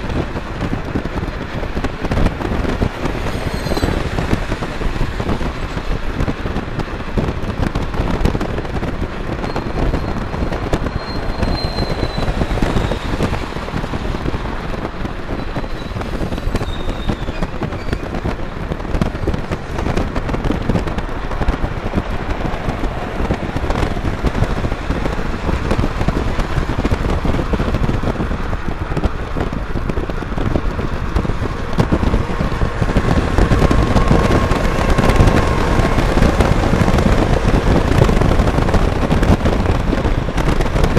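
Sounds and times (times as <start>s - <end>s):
wind and road noise: 0.0s - 40.9s
wind buffeting on microphone: 0.0s - 40.9s.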